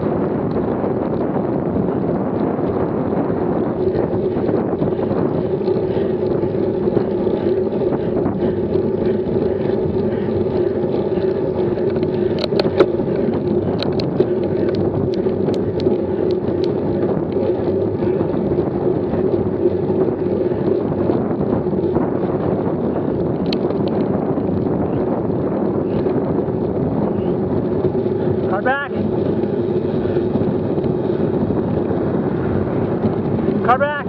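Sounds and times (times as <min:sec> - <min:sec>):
low hum: 0:00.0 - 0:33.8
road noise: 0:00.0 - 0:34.0
wind rushing: 0:00.0 - 0:34.0.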